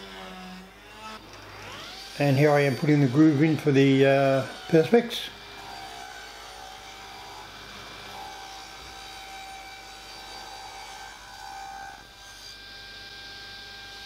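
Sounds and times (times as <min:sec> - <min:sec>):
router cutting wood: 0:00.0 - 0:14.0
router whining: 0:00.0 - 0:14.0.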